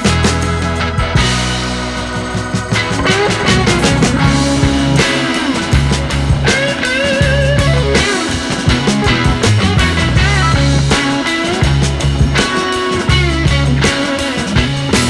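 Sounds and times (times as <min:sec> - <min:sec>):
rock music with guitar drums and bass: 0:00.0 - 0:15.0.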